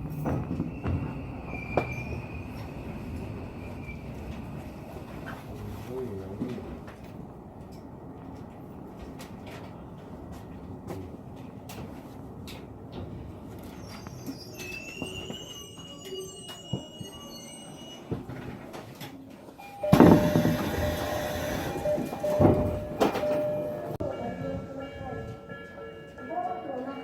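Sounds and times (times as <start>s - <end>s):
loud rush of train noise: 0.0s - 27.0s
low train rumble: 0.0s - 27.0s.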